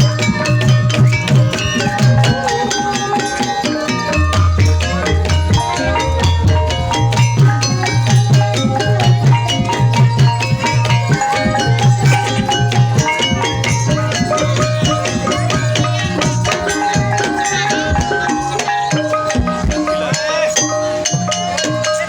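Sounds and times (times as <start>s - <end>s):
gamelan music: 0.0s - 22.0s
metallophone and drum strikes: 0.0s - 22.0s
rattling percussion: 0.0s - 22.0s.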